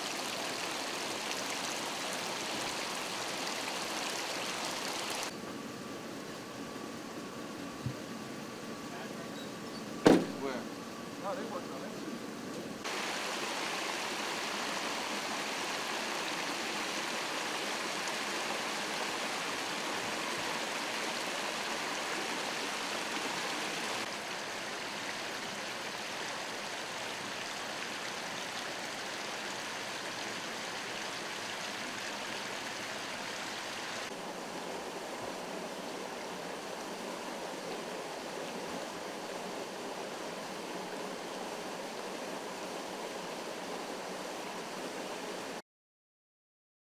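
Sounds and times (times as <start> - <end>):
water gushing from broken main: 0.0 - 5.3, 12.8 - 45.6.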